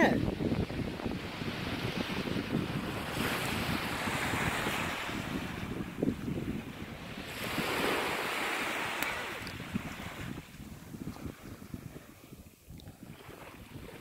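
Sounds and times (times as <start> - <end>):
waves washing onto sand: 0.0 - 14.0
wind buffeting microphone: 0.0 - 14.0.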